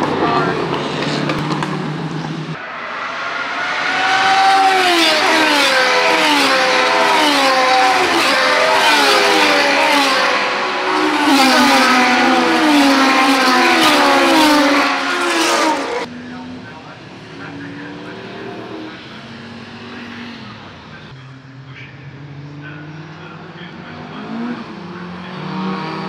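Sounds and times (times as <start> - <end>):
racing car engines revving: 0.0 - 26.0.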